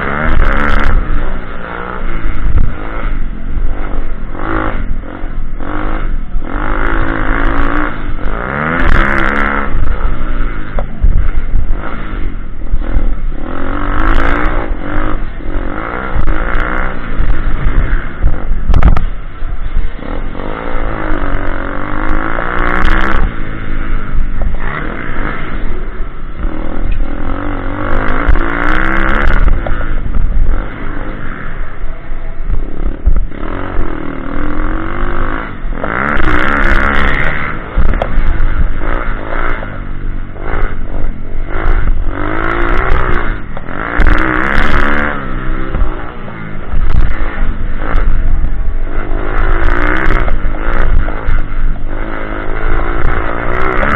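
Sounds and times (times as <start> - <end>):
small motorbike engine revving: 0.0 - 53.9.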